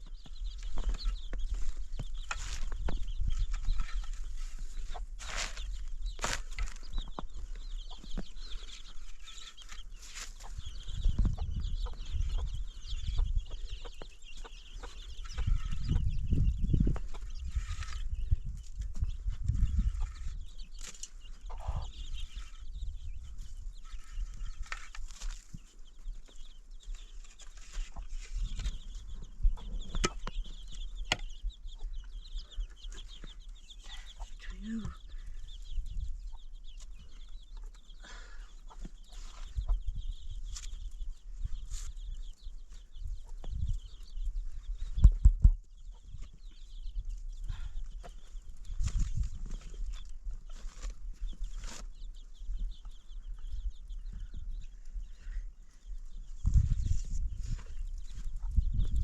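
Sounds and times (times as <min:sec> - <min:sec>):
fowl clucking and chirping: 0:00.0 - 0:59.0.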